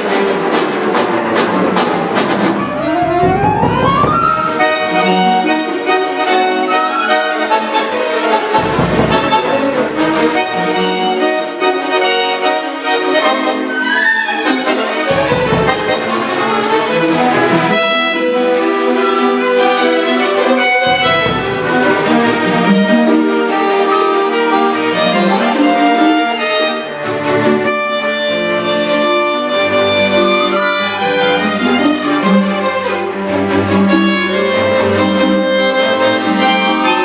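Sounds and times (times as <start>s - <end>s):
accordion: 0.0s - 37.0s
orchestra strings and winds: 0.0s - 37.0s.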